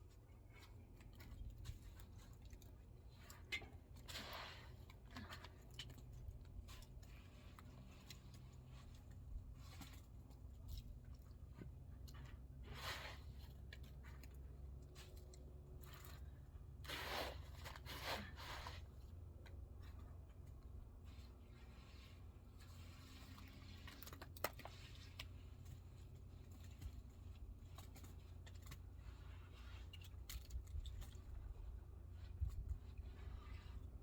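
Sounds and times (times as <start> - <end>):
low steady hum: 0.0 - 34.0
faint scraping and rubbing: 0.1 - 14.3, 14.9 - 20.4, 21.0 - 34.0.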